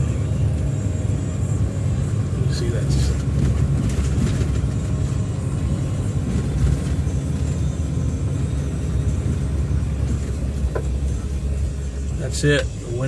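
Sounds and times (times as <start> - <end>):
vehicle interior rumble: 0.0 - 13.0.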